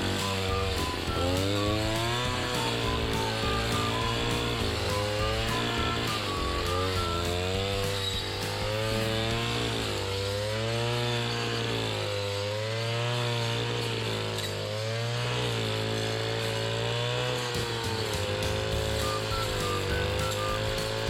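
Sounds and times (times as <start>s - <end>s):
small petrol engine running: 0.0s - 21.0s.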